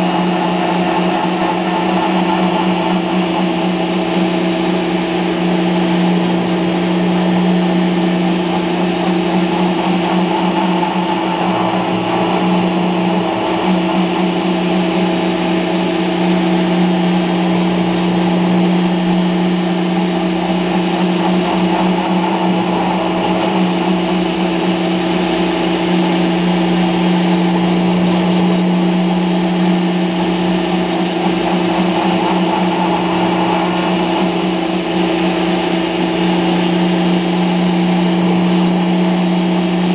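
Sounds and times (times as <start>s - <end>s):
router motor humming: 0.0s - 39.9s.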